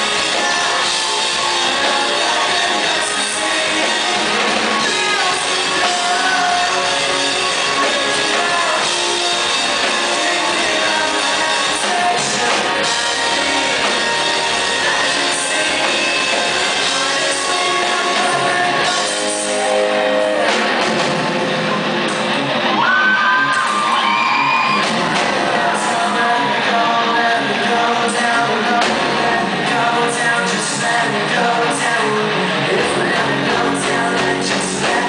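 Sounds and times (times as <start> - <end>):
drum kit: 0.0 - 35.0
electric guitar: 0.0 - 35.0
lead singer: 0.0 - 35.0
pop-punk band playing live: 0.0 - 35.0.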